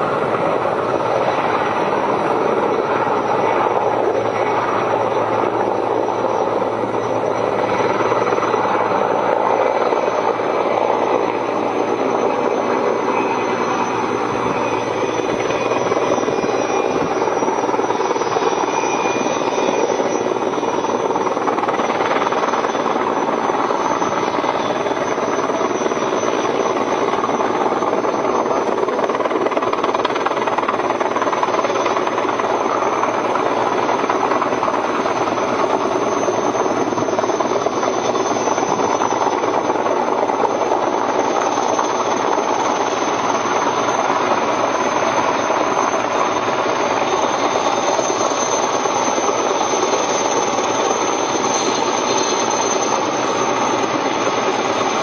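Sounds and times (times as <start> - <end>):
helicopter engine noise: 0.0 - 55.0
helicopter rotor chop: 0.0 - 55.0.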